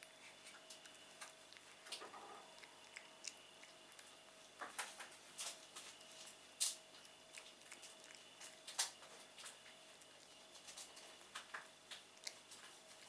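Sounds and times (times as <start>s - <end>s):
cat chewing meat: 0.0s - 13.0s.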